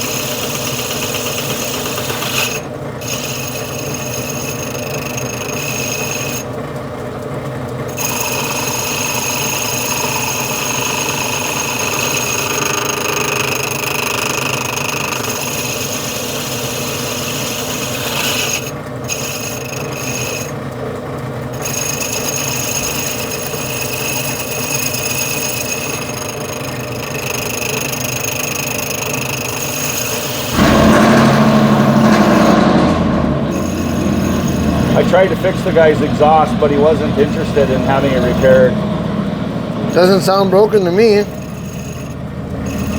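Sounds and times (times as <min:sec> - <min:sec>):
lathe bit scraping cut: 0:00.0 - 0:42.9
loud rough machine sound: 0:00.0 - 0:42.9
metal lathe hum: 0:00.0 - 0:42.9.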